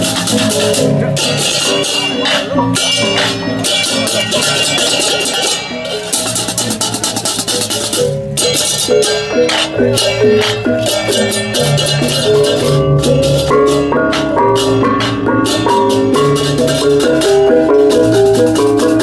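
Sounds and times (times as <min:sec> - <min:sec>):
metallophones playing notes: 0:00.0 - 0:19.0.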